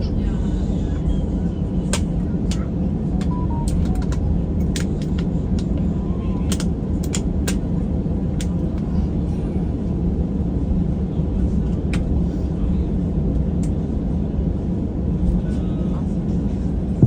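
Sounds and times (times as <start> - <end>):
airliner cabin low rumble: 0.0 - 17.0.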